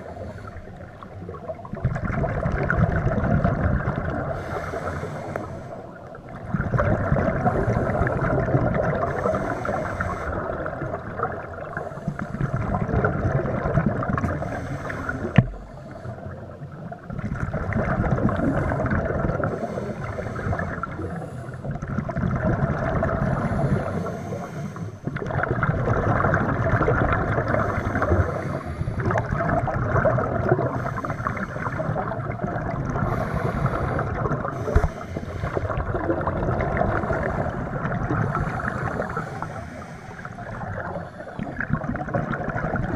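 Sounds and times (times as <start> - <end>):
scuba regulator exhaust bubbles: 0.0 - 42.9.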